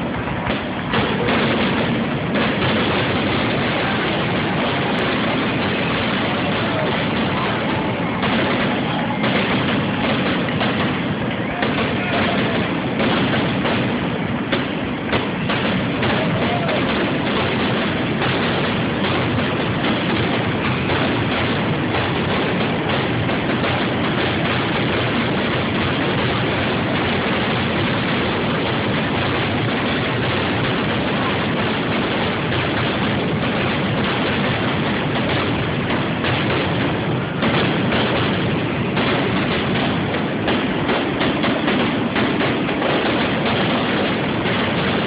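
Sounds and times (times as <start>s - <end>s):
fireworks explosions and crackle: 0.0s - 45.0s.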